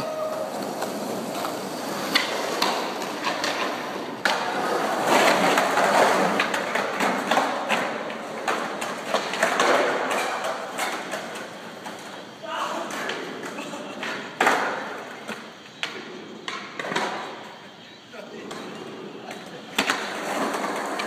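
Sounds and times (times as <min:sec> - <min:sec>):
skateboard clacks on concrete: 0:00.0 - 0:21.0
skateboard wheels rolling on concrete: 0:00.0 - 0:21.0.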